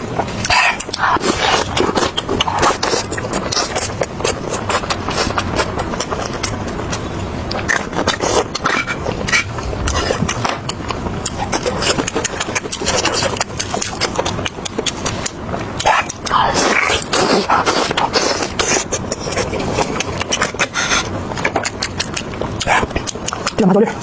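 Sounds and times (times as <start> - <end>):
wet chewing and lip-smacking: 0.2 - 24.0
gnawing meat off the bone: 0.4 - 23.6.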